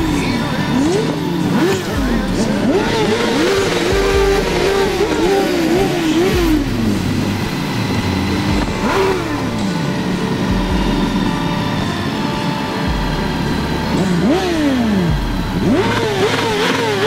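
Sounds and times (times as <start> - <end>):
motorcycle engines revving: 0.0 - 17.0
road and wind noise: 0.0 - 17.0.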